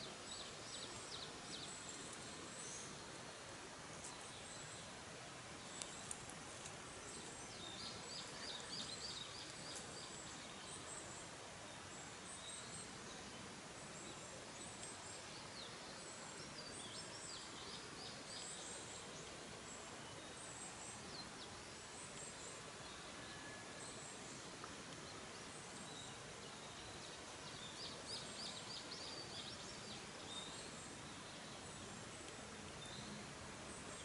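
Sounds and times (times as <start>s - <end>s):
small birds chirping: 0.0s - 34.0s
steady outdoor hiss: 0.0s - 34.0s.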